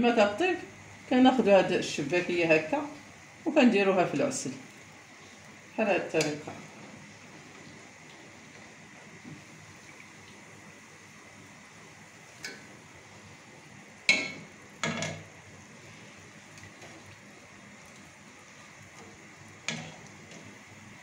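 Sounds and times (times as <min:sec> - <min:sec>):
oil sizzling: 0:00.7 - 0:21.0.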